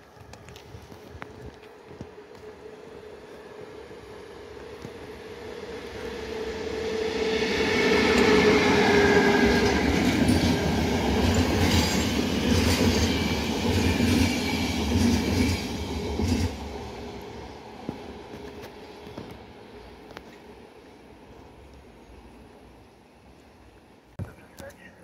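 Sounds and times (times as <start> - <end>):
passenger train passing: 0.0 - 24.1.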